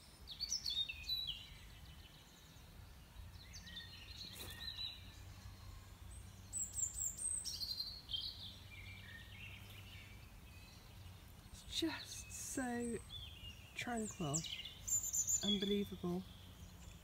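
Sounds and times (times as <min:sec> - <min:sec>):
faint low background noise: 0:00.0 - 0:17.0
songbirds chirping and trilling: 0:00.0 - 0:17.0.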